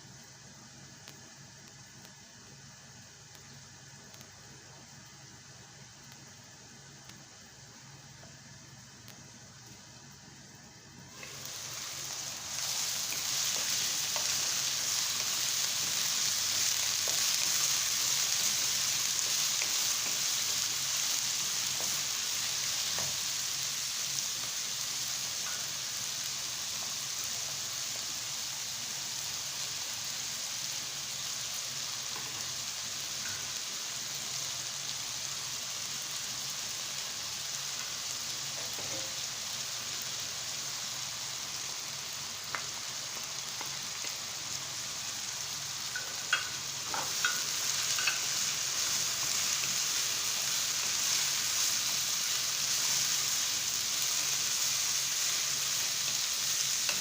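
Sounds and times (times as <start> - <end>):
food sizzling in hot oil: 3.6 - 57.0.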